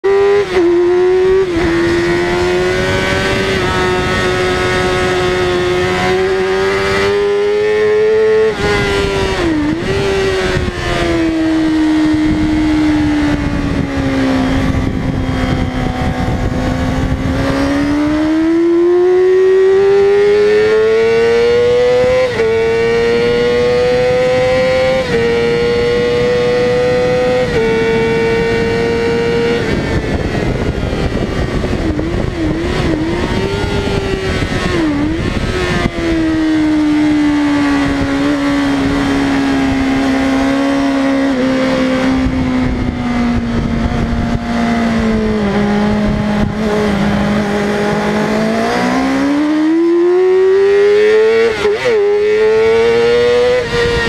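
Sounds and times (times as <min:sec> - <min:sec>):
motorcycle engine revving: 0:00.0 - 0:54.0
wind noise: 0:00.0 - 0:54.0.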